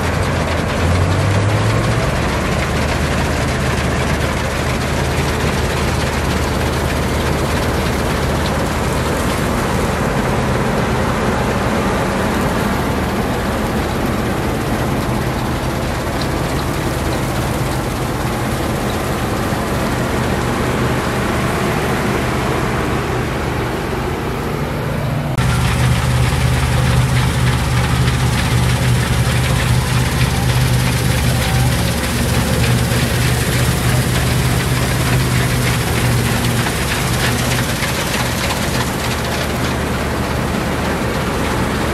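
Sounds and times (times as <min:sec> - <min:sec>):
combine harvester droning: 0:00.0 - 0:41.9.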